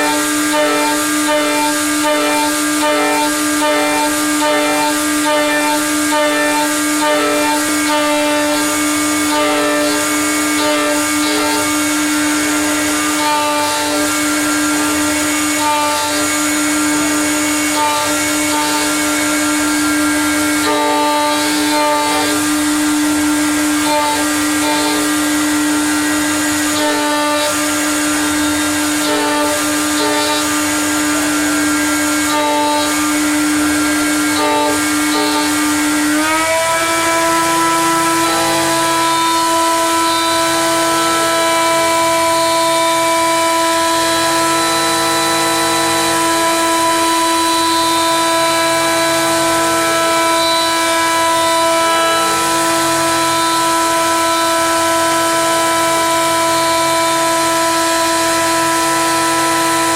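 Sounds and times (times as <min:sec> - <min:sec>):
mill spindle motor cutting metal: 0:00.0 - 0:59.9.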